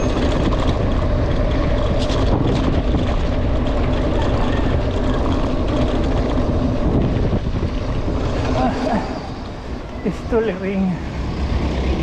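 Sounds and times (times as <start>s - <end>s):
bike tyre rumble: 0.0s - 12.0s
wind rushing: 0.0s - 12.0s.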